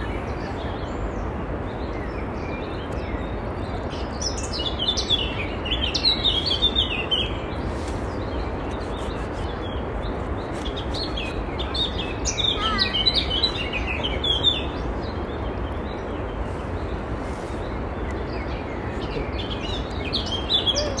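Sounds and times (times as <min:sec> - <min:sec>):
songbirds chirping: 0:00.0 - 0:21.0
steady rushing background noise: 0:00.0 - 0:21.0.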